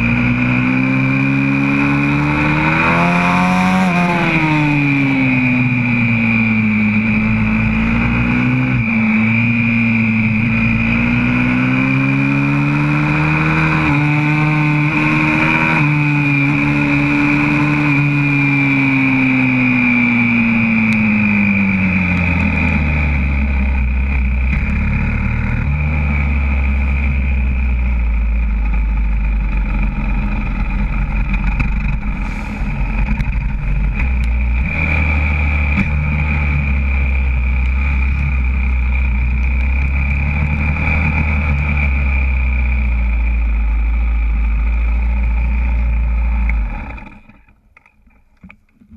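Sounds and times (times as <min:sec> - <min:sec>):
motorbike engine revving: 0:00.0 - 0:47.5
steady high whine: 0:00.0 - 0:47.6.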